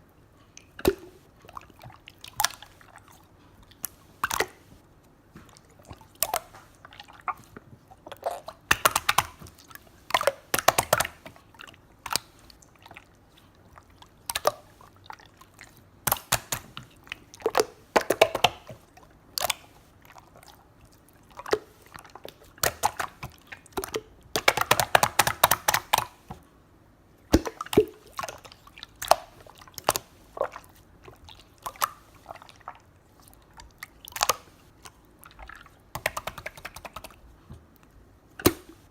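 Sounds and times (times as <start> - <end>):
slime squeezed with wet pops: 0.6 - 4.8, 5.4 - 26.4, 27.2 - 37.8, 38.4 - 38.9.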